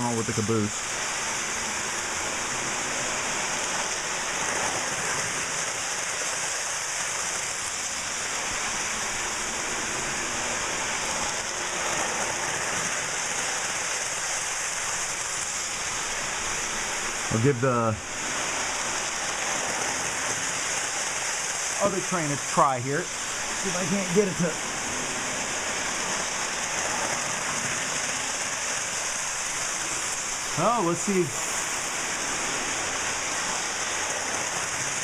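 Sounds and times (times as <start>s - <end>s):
model train wheels on rails: 0.0s - 35.0s.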